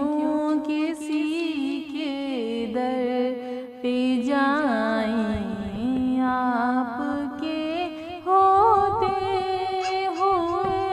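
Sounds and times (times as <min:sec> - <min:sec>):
woman singing: 0:00.0 - 0:10.9.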